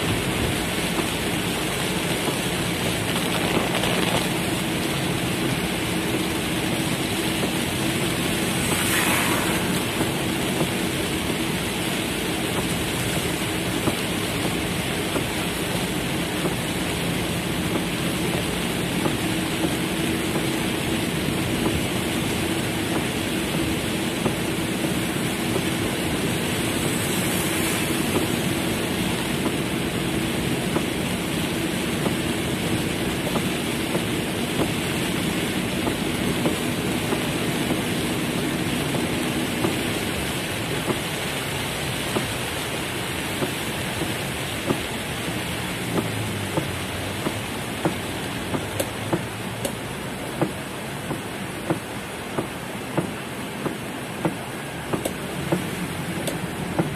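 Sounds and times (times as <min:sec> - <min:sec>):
heavy rain on car roof: 0:00.0 - 0:56.9.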